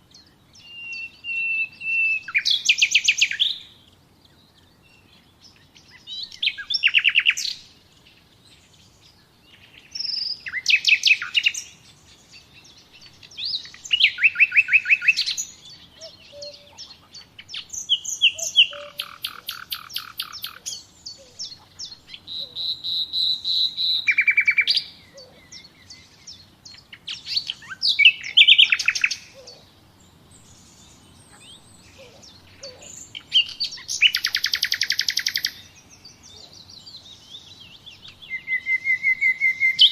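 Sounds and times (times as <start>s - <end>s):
songbird trilling: 0.2s - 7.8s, 8.8s - 39.9s.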